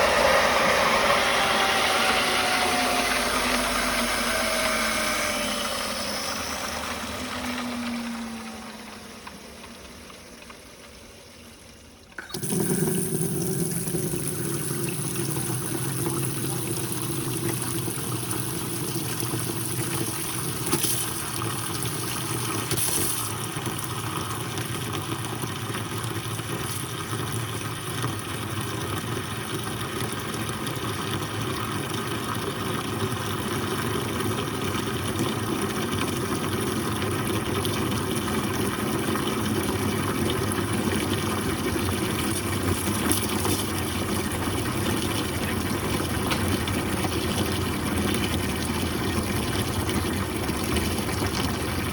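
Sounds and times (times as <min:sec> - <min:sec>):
water rushing from tap: 0:00.0 - 0:10.6, 0:12.2 - 0:51.9
water pump humming: 0:00.0 - 0:51.9.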